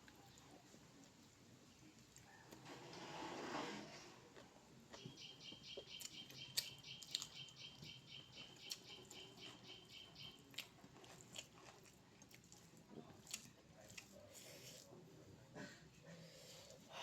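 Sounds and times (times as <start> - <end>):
quiet chewing: 0.0 - 3.0, 3.8 - 17.0.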